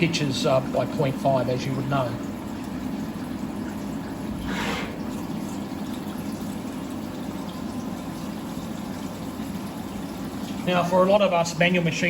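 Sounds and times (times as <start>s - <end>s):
coolant splashing: 0.0s - 12.0s.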